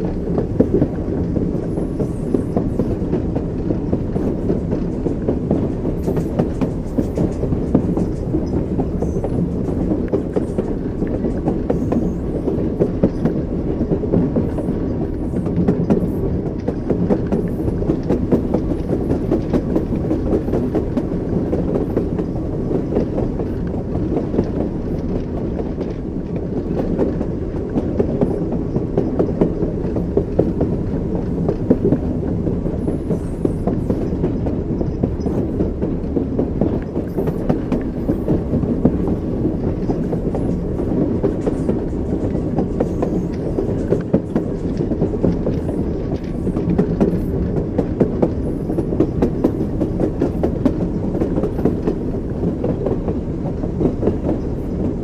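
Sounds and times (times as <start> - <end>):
train wheels rumbling on rails: 0.0 - 55.0
wheels clacking over rail joints: 0.0 - 55.0.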